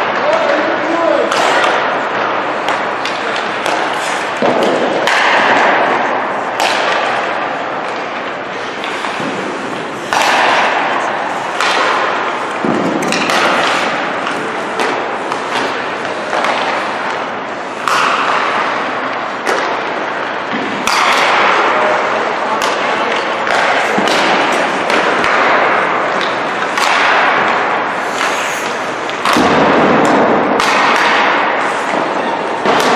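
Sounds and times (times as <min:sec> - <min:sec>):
hockey pucks and sticks knocking: 0:00.0 - 0:32.9
skates scraping on ice: 0:00.3 - 0:21.1, 0:22.3 - 0:29.9.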